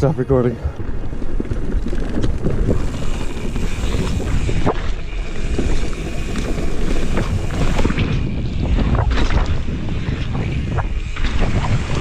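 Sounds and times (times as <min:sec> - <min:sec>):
bike tyre rumble: 0:00.0 - 0:12.0
wind buffeting microphone: 0:00.0 - 0:12.0
bike knocks and rattles: 0:01.1 - 0:12.0.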